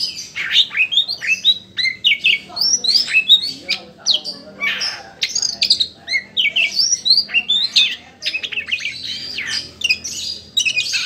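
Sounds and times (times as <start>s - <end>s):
bird singing: 0.0s - 11.0s.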